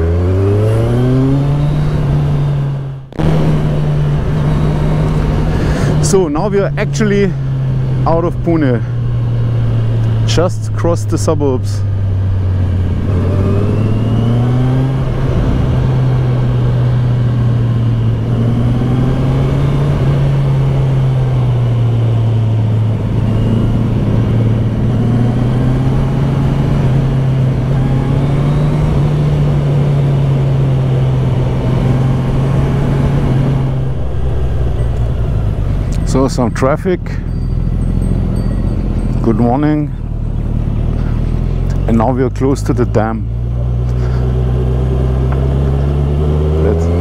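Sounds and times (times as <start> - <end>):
motorcycle engine cruising: 0.0 - 47.0
wind and road noise: 0.0 - 47.0.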